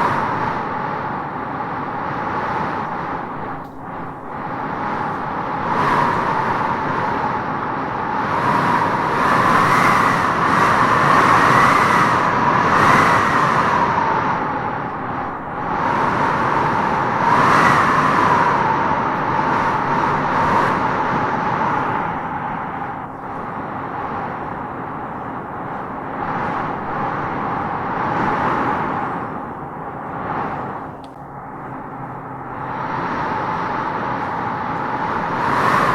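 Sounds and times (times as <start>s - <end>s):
wind howling through trees: 0.0s - 35.9s.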